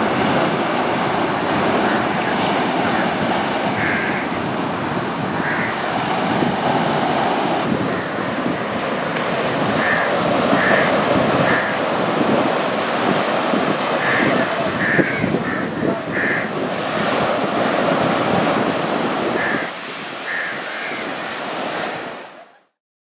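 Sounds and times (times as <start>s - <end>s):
sea surf washing up beach: 0.0s - 22.6s.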